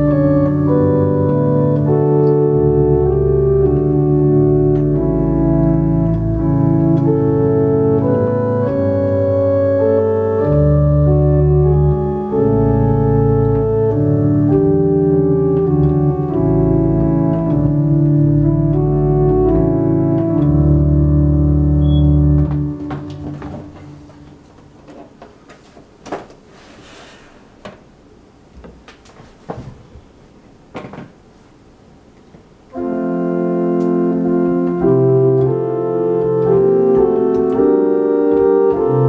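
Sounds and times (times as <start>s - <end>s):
organ sustained chords: 0.0s - 25.0s, 32.6s - 39.0s.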